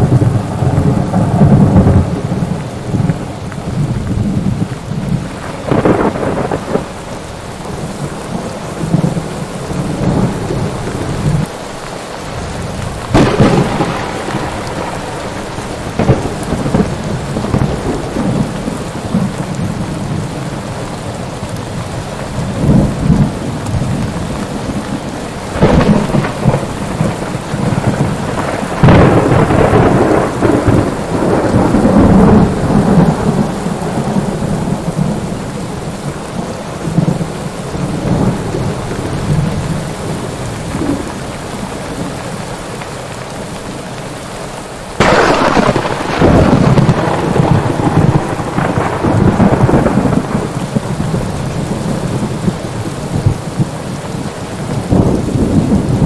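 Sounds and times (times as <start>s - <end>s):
thunder claps and rumbles: 0.0s - 11.6s, 12.2s - 42.2s, 45.0s - 56.0s
steady rain: 0.0s - 56.0s.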